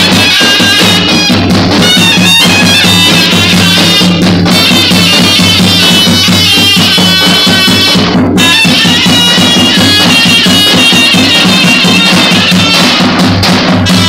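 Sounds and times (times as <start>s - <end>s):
drum beating: 0.0s - 14.0s
shawm playing fast melody: 0.0s - 14.0s.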